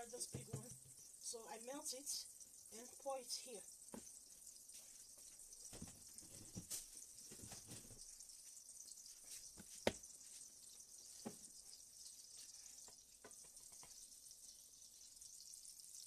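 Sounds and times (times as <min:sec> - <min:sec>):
oil sizzling in a pot: 0:00.0 - 0:16.0.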